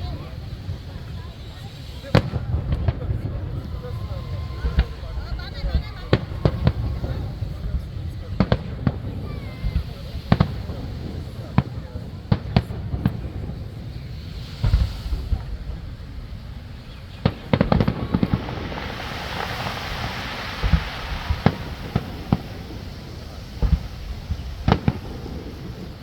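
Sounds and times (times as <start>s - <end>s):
fireworks booming: 0.0s - 26.0s
fireworks crackling: 0.0s - 26.0s.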